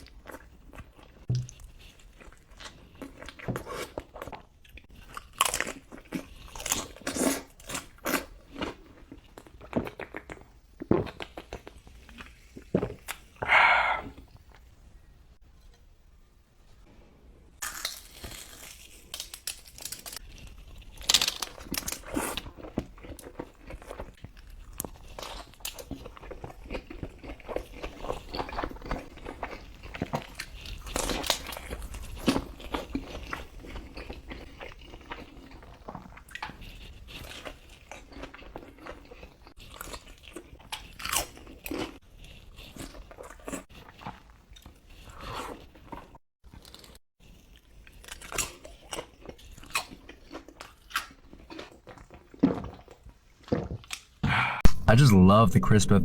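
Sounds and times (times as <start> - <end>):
crunchy bites and chewing: 0.0 - 14.2, 17.6 - 54.8.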